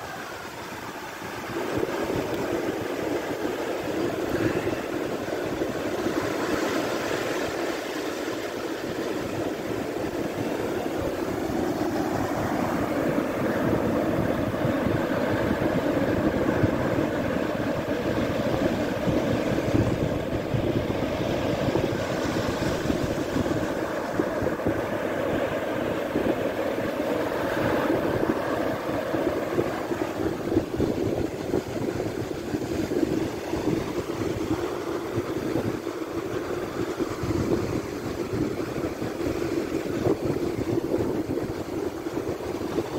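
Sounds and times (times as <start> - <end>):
surf breaking on beach: 0.0 - 42.9.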